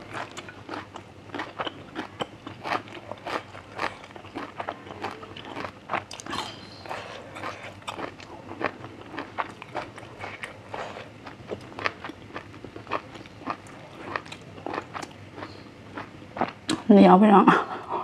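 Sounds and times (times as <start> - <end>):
chewing and crunching: 0.0 - 16.9.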